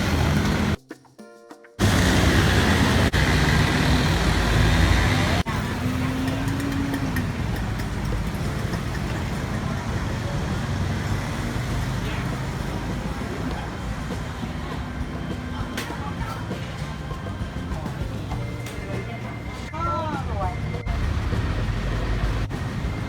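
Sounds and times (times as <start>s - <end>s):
city traffic rumbling: 0.0s - 0.8s, 1.8s - 23.0s.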